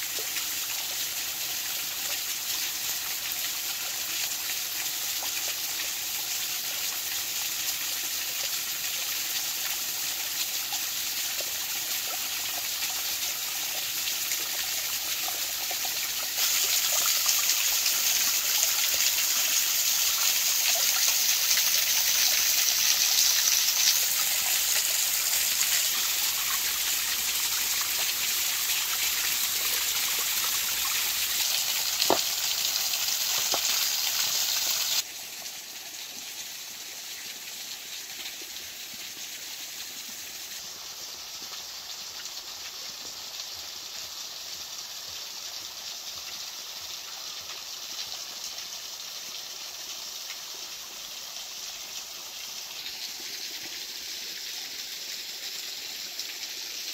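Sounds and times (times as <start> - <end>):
small waterfall splashing: 0.0 - 56.9.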